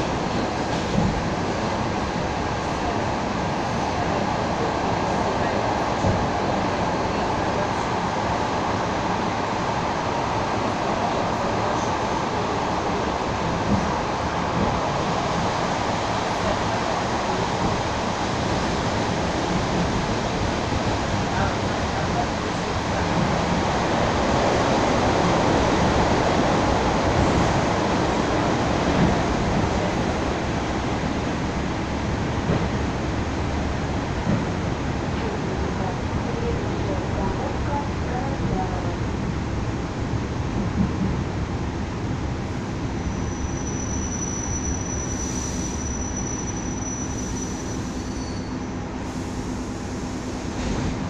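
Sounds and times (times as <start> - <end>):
train running noise: 0.0 - 51.0.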